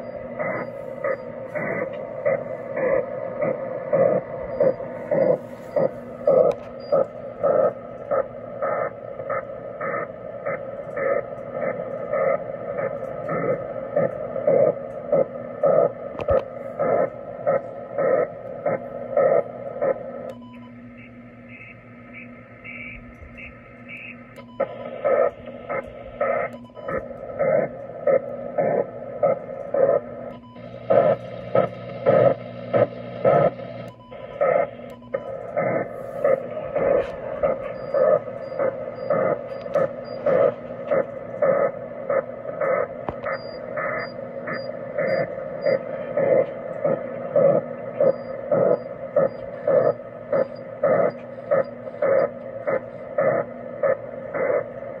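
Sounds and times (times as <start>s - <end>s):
rhythmic digital whooshing pulses: 0.0s - 20.3s, 20.9s - 55.0s
steady radio tone: 0.0s - 55.0s.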